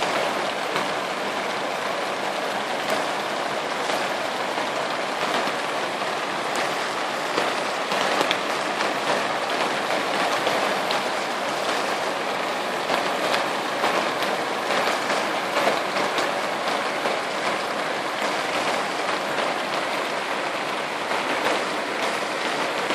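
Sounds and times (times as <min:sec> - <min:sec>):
heavy rain: 0:00.0 - 0:22.9
raindrops ticking close by: 0:00.0 - 0:22.9.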